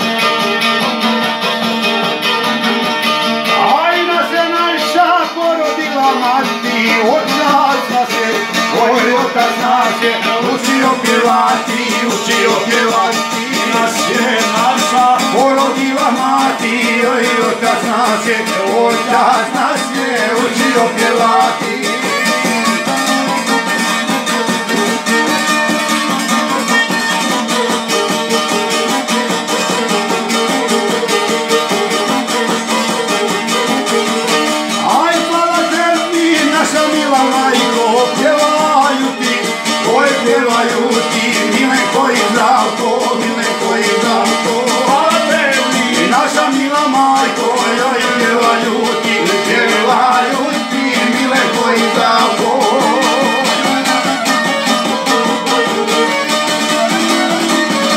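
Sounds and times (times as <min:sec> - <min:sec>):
violin and plucked lute playing: 0:00.0 - 0:57.9
man singing: 0:03.5 - 0:25.2, 0:30.5 - 0:33.8, 0:34.7 - 0:57.9.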